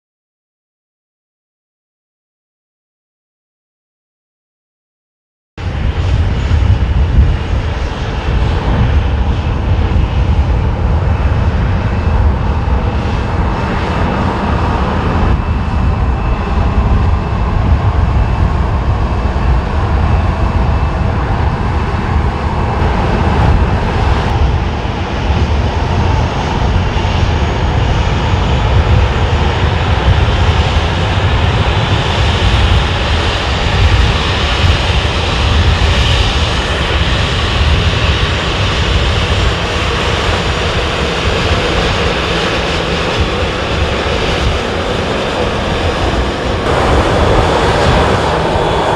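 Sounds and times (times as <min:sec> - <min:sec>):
jet engines running: 0:05.6 - 0:48.9
wind rumbling on microphone: 0:05.6 - 0:48.9.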